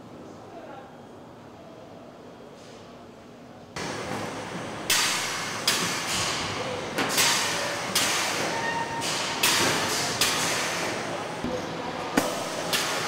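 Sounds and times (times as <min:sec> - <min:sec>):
factory hum: 0:00.0 - 0:13.0.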